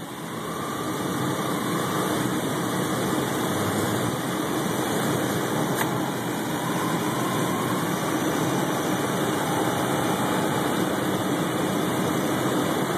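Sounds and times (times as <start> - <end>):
car engine idling: 0.0 - 12.9
faint alternator whine: 0.0 - 12.9.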